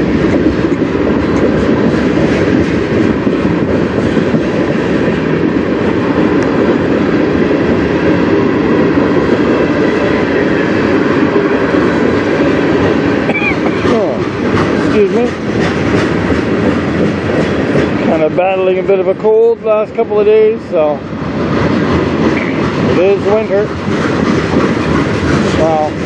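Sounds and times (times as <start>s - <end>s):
steel wheels rumbling on rail: 0.0s - 26.0s.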